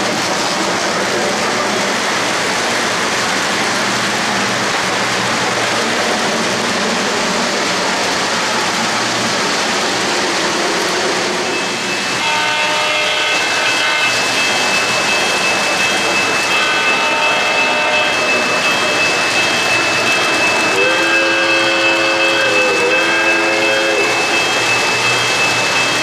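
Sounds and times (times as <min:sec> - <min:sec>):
model train cars rolling on metal track: 0:00.0 - 0:26.0.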